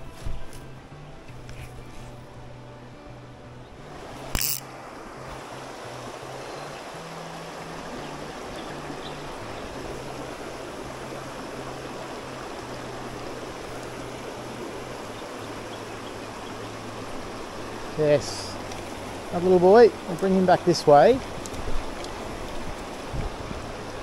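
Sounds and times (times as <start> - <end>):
faint background music: 0.0 - 24.0
creek water running over rocks: 3.7 - 24.0.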